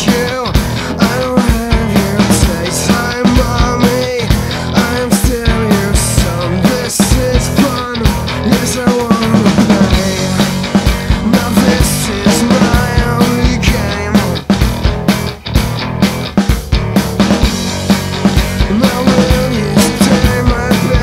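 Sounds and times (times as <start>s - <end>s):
rock music with drum beat: 0.0s - 21.0s.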